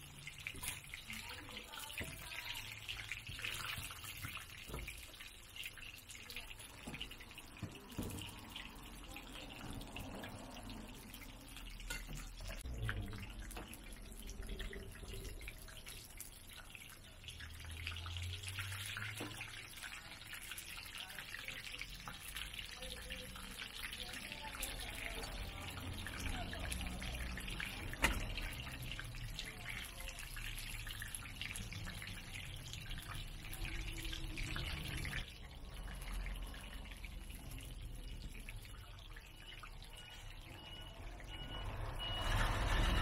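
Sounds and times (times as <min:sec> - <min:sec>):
oil sizzling and bubbling: 0:00.0 - 0:43.0.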